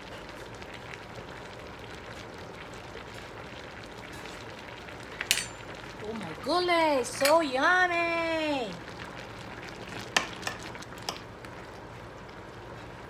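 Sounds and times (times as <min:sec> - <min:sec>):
broth simmering in a saucepan: 0:00.0 - 0:13.0.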